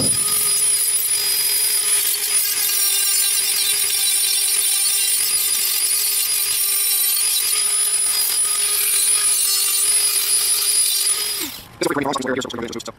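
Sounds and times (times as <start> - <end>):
rotary tool sanding sheet metal: 0.0 - 11.6.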